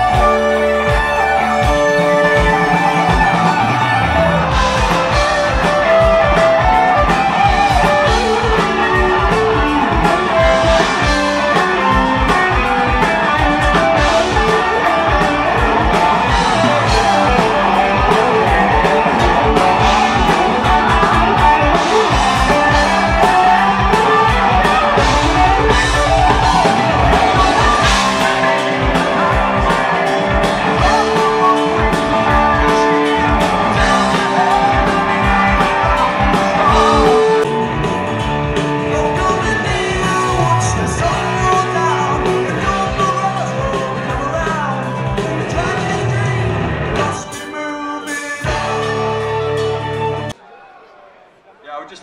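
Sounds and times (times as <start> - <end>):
heavy metal band playing: 0.0 - 50.4.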